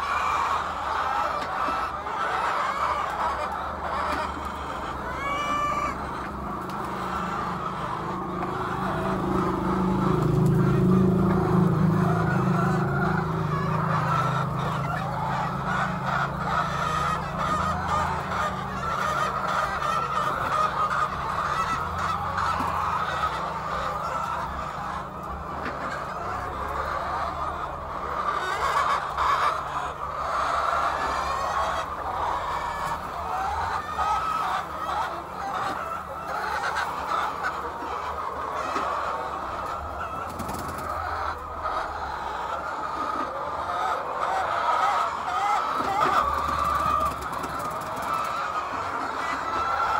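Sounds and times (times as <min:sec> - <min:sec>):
hens clucking: 0:00.0 - 0:49.9.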